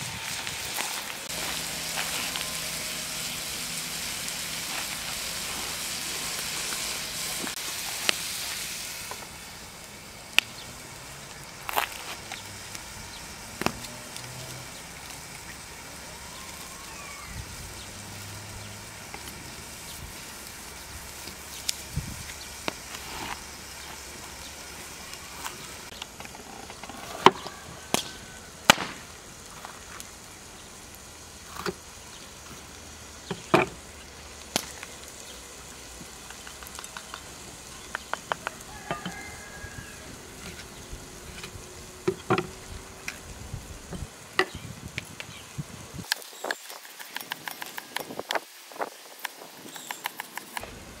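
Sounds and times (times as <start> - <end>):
campfire crackling: 0.0 - 51.0
meat sizzling in pan: 0.0 - 51.0.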